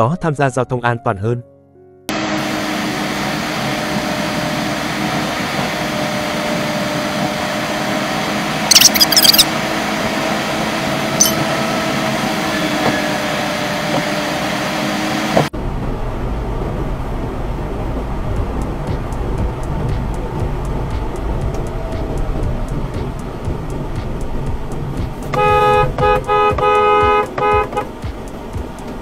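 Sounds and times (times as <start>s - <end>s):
engine and road hum: 2.0s - 29.0s.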